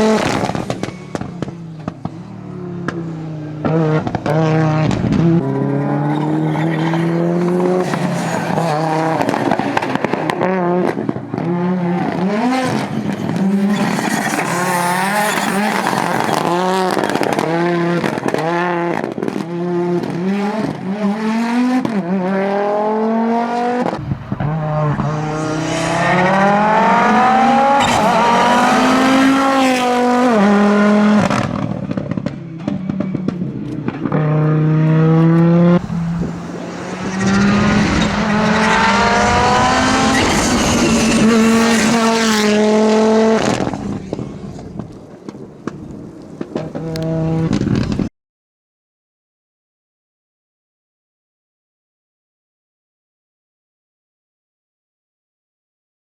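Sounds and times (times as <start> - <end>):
rally car engine at full throttle: 0.0 - 48.1.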